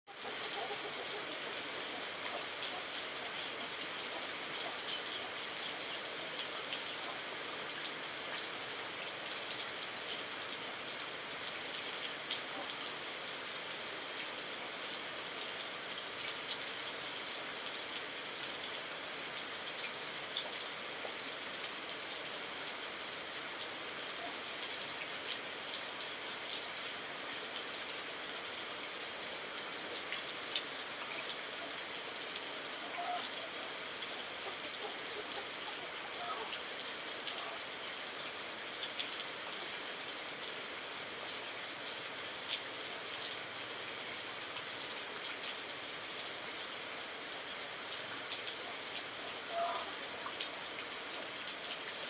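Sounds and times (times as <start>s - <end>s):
steady rain hiss: 0.1s - 52.0s.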